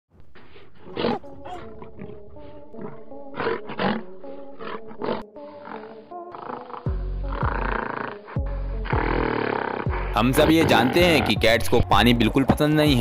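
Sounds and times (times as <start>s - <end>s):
big cat roars and snarls: 0.4s - 11.5s
dramatic background music: 0.9s - 13.0s.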